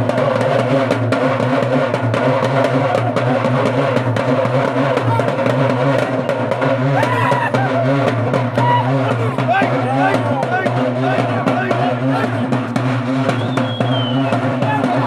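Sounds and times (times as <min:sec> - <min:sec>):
frame drums beaten with sticks: 0:00.0 - 0:15.0.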